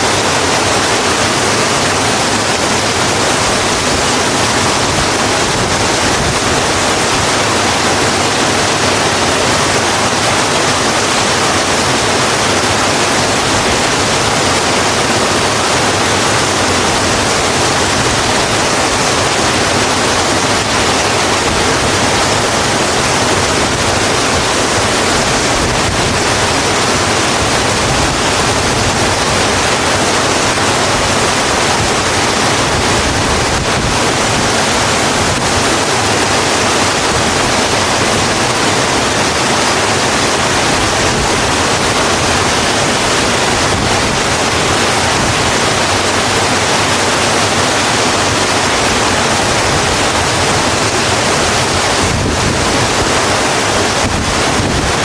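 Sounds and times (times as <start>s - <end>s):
heavy rain on a road: 0.0s - 55.0s.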